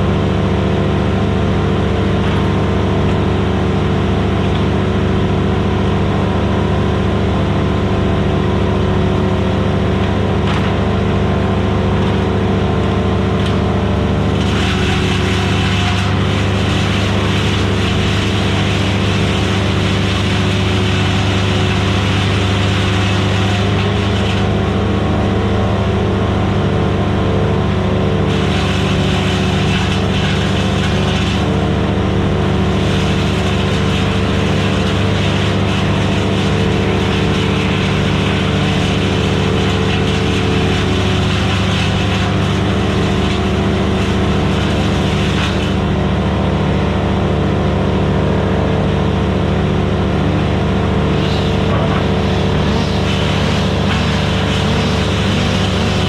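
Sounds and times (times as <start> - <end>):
wood chipper grinding wood: 0.0 - 56.0
wood chipper running: 0.0 - 56.0.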